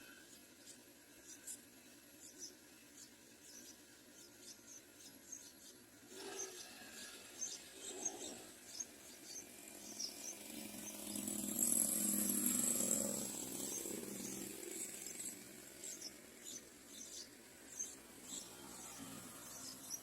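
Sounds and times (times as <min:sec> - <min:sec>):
nestlings squeaking: 0:00.4 - 0:20.0.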